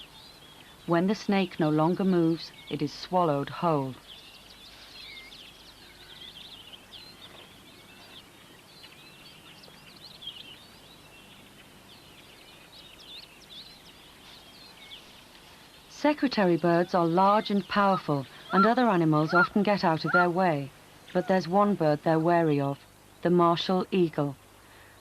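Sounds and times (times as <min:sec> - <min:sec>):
outdoor ambience hiss: 0:00.0 - 0:25.0
small birds chirping: 0:00.0 - 0:25.0.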